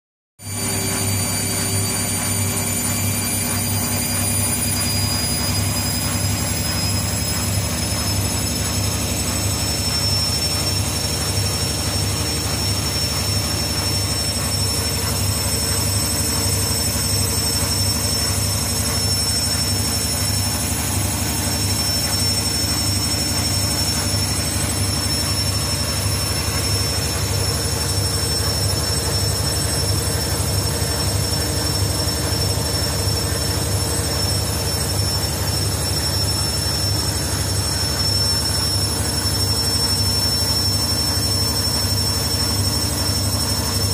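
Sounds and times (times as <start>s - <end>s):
high-pitched motor whine: 0.4s - 43.9s
washing machine spinning: 0.4s - 43.9s.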